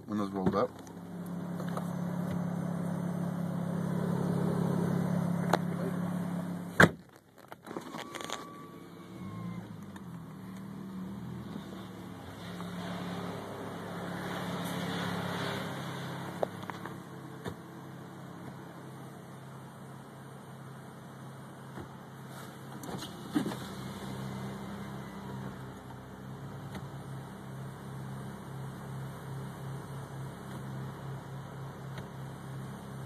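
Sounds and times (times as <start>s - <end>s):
droning hum inside car: 0.0s - 33.0s.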